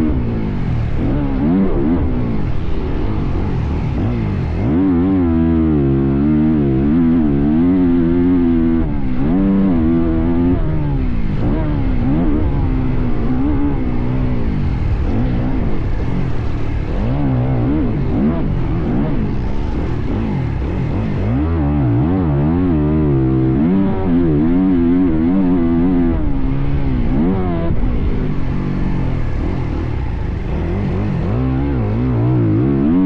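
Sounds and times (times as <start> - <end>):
motocross bike engine revving: 0.0 - 33.0.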